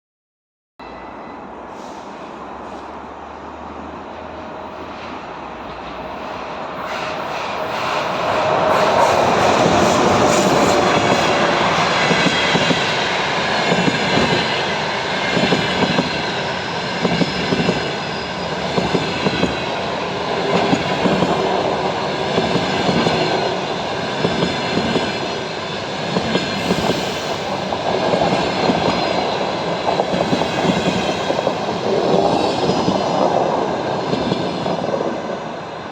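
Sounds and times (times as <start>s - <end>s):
electric locomotive passing: 0.8s - 35.9s
train wheels clickety-clack: 5.8s - 35.3s.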